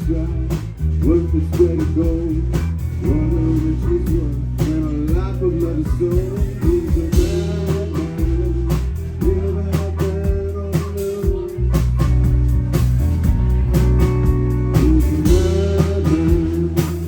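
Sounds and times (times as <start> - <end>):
band playing blues-rock: 0.0 - 17.0.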